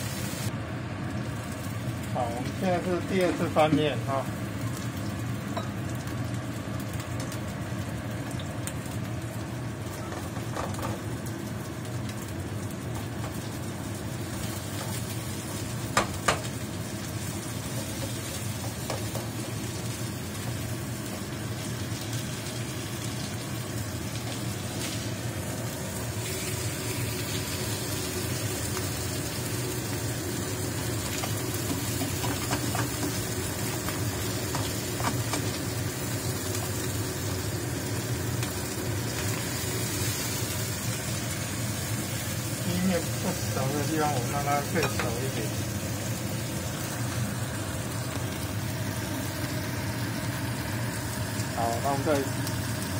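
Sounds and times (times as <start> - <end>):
fish sizzling in a pan: 0.0 - 52.9.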